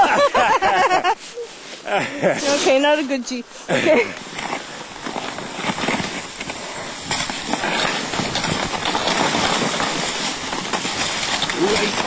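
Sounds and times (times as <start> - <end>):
sled runners scraping snow: 0.0 - 12.0
paws crunching on snow: 1.2 - 12.0.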